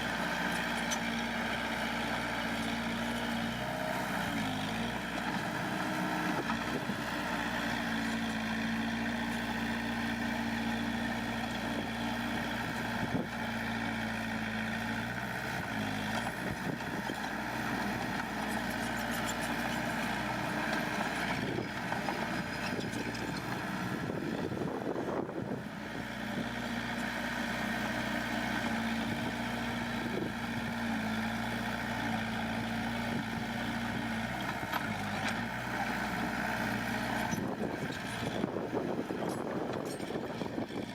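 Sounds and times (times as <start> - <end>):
heavy machinery diesel engine running: 0.0 - 40.9.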